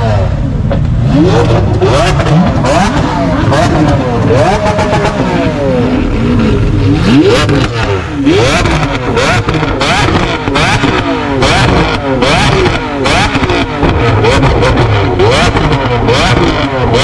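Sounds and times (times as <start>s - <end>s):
sports car engines revving: 0.0s - 17.0s.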